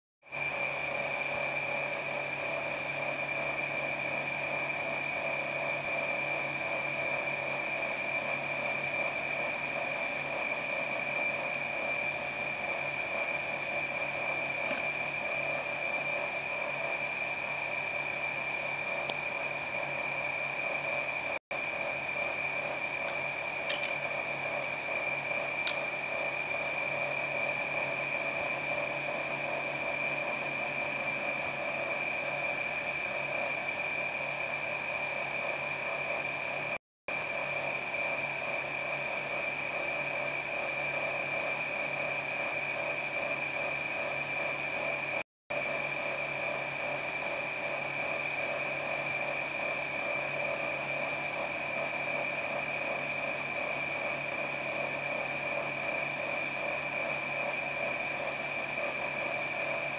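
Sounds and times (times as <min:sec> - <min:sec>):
machine hum: 0:00.2 - 0:59.9.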